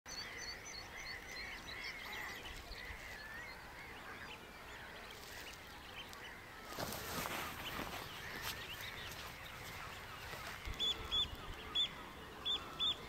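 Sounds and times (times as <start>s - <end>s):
birds calling: 0.1s - 13.0s
faint outdoor hiss: 0.1s - 13.0s.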